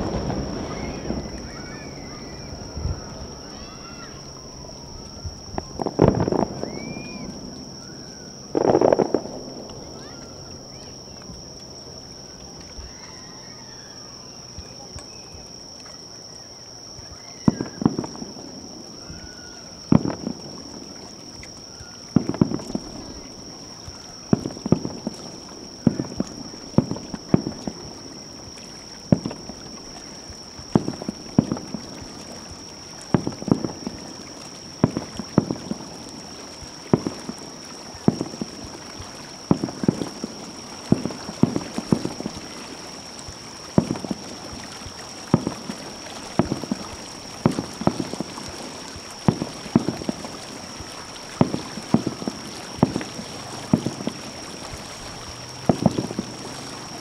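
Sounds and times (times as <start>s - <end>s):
fireworks bursting with sharp bangs: 0.0s - 13.1s, 17.0s - 57.0s.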